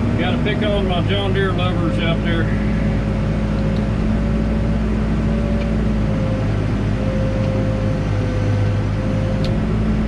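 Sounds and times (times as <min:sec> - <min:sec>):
diesel engine running: 0:00.0 - 0:10.0
high whine: 0:00.0 - 0:10.0.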